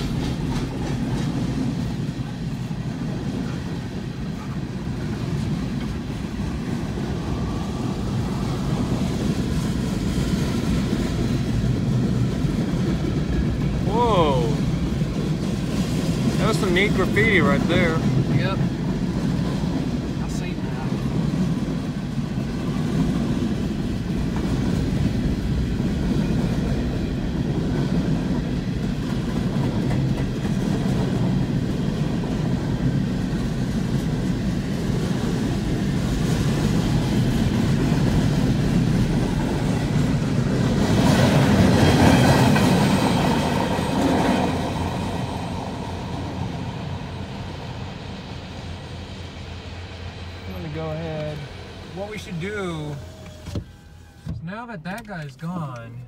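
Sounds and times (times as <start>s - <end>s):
wheels clattering on rails: 0.0s - 48.1s
freight train rumbling past: 0.0s - 56.0s.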